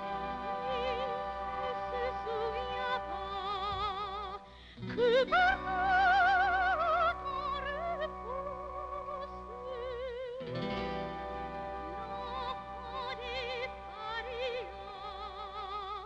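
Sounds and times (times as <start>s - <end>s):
instrumental accompaniment: 0.0s - 16.0s
woman singing operatically: 0.0s - 16.0s.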